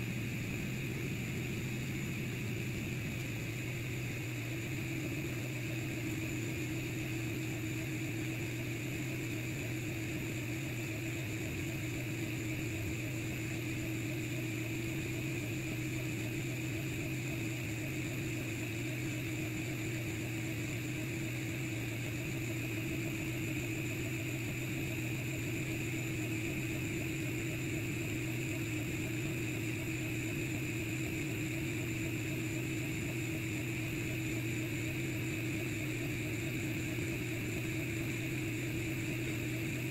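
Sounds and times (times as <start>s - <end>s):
laser engraver hum and whine: 0.0s - 39.9s.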